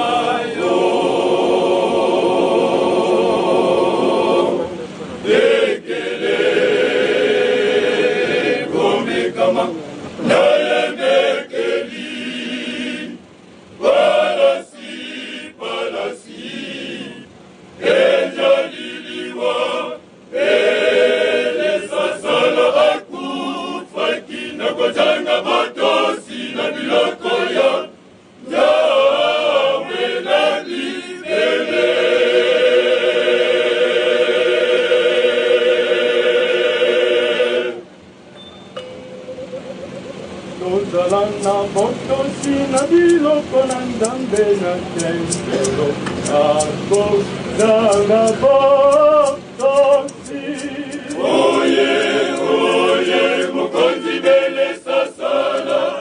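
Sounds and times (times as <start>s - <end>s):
male choir singing: 0.0s - 37.9s, 40.5s - 56.0s.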